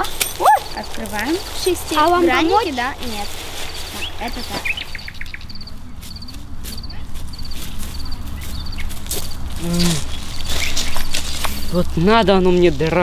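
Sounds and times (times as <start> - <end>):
tent fabric rustling: 0.0 - 5.2, 5.8 - 13.0
high quick chirps: 0.0 - 11.9.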